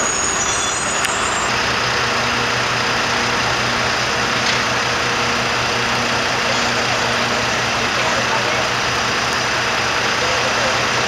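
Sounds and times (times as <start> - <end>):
fire engine engines idling: 0.0 - 11.0.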